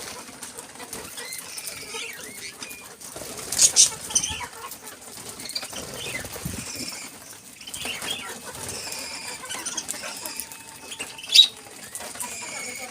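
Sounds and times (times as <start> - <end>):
budgerigars chirping and chattering: 0.0 - 12.9
wings flapping: 0.0 - 12.9.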